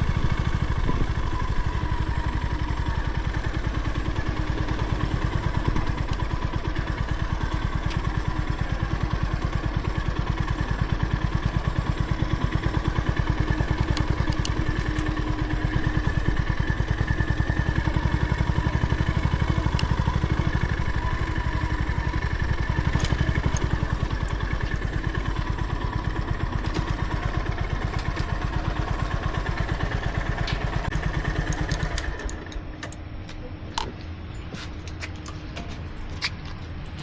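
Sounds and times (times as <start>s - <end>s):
motorcycle engine idling: 0.0s - 34.3s.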